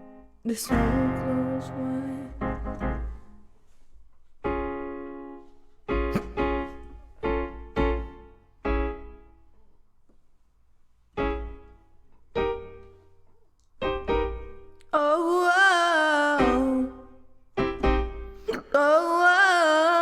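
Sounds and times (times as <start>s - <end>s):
piano chords: 0.0s - 9.7s, 11.1s - 20.0s.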